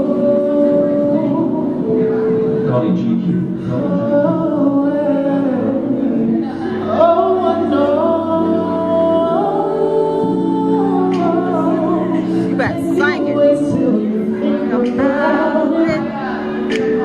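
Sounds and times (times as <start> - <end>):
backing music: 0.0 - 17.0
man singing into microphone: 0.0 - 17.0.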